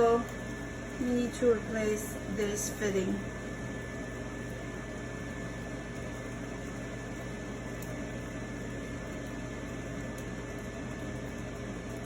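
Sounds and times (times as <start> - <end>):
equipment hum and fan whir: 0.0 - 12.0.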